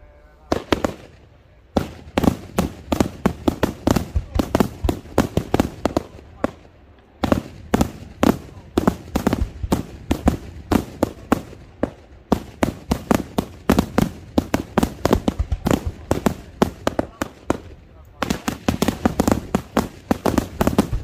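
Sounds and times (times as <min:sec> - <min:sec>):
fireworks bursting with sharp bangs: 0:00.4 - 0:21.0.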